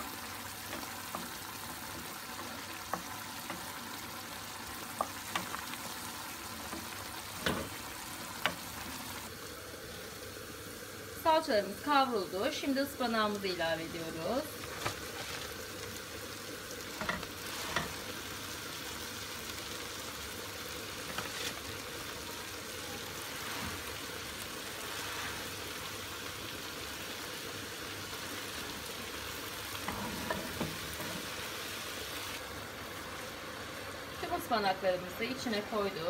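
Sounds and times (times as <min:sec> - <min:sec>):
oil sizzling in a pot: 0:00.0 - 0:36.0.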